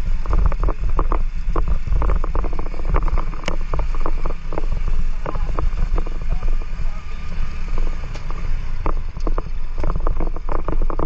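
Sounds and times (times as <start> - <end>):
motorcycle rumble: 0.0 - 11.0
wind buffeting microphone: 0.0 - 11.0.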